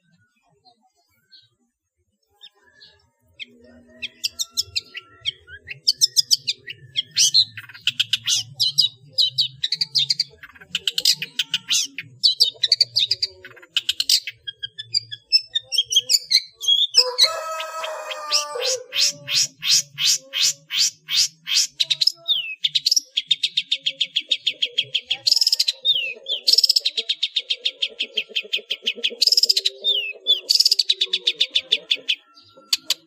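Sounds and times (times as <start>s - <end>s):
bird song chirps and trills: 0.0s - 33.0s.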